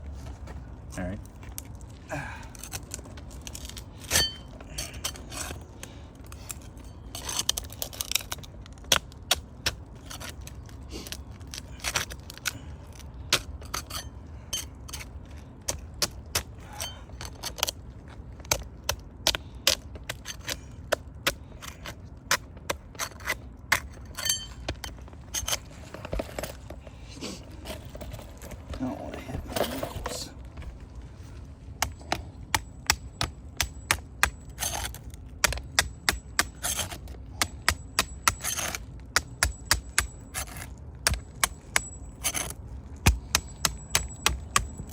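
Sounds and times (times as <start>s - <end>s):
low steady rumble: 0.0s - 44.9s
hand tools clicking and scraping: 1.6s - 30.3s, 31.7s - 44.9s.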